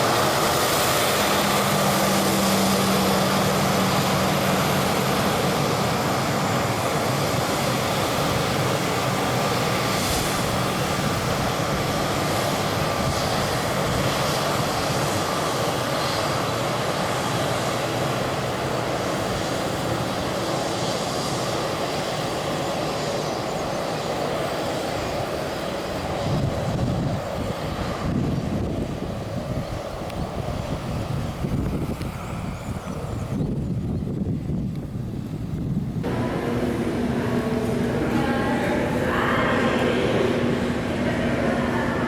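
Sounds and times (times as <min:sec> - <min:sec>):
jet engines running: 0:00.0 - 0:42.0.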